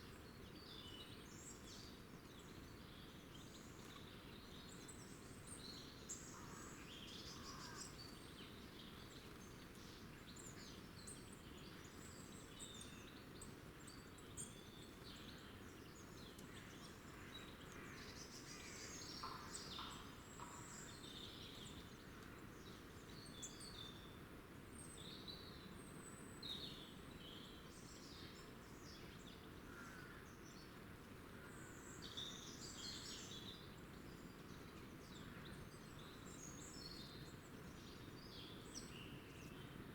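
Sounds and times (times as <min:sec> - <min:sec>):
low background noise: 0:00.0 - 0:39.9
songbirds chirping: 0:00.1 - 0:39.9.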